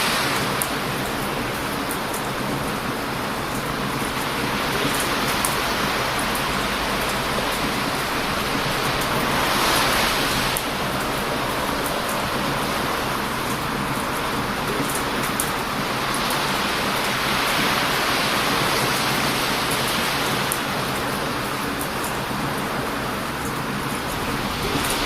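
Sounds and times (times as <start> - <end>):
bonfire crackling: 0.0 - 25.0
ocean surf breaking: 0.0 - 25.0.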